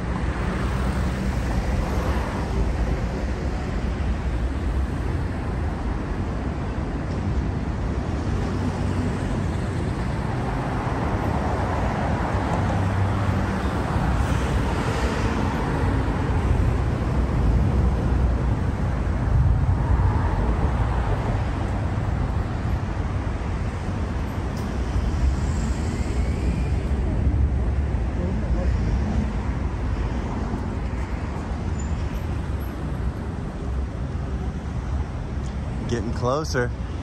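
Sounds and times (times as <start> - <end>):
cars driving past: 0.0 - 37.0.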